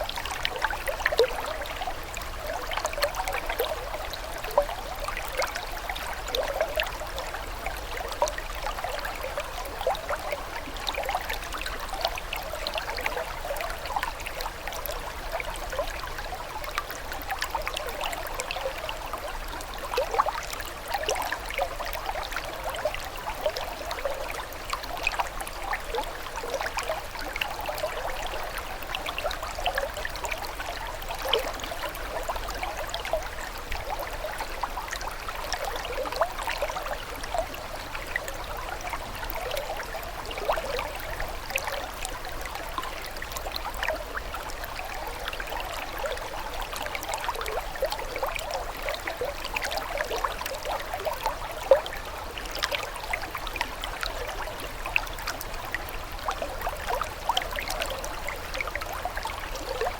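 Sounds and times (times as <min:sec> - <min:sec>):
stream water trickling and splashing: 0:00.0 - 0:59.9.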